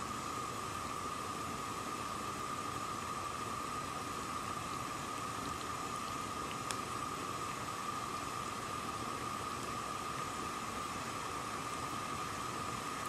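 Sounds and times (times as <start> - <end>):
gas flame hissing: 0.0 - 13.0
water boiling: 0.0 - 13.0.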